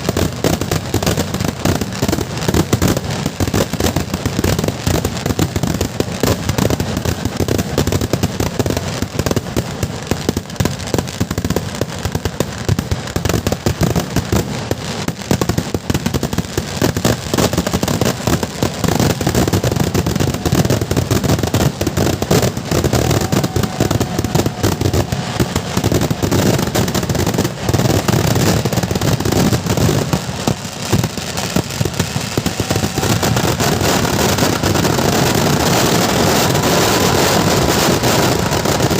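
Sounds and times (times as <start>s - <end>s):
firecrackers and fireworks banging: 0.0s - 38.9s.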